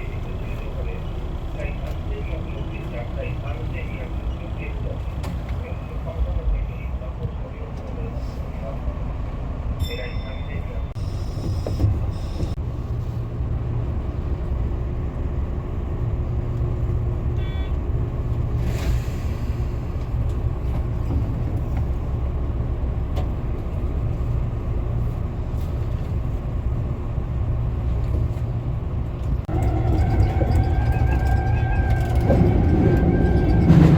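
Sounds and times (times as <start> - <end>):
train rumbling along track: 0.0 - 33.9.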